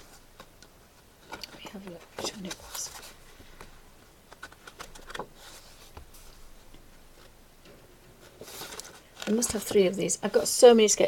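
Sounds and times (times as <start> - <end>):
paper rustling: 0.0 - 7.4, 8.2 - 10.7.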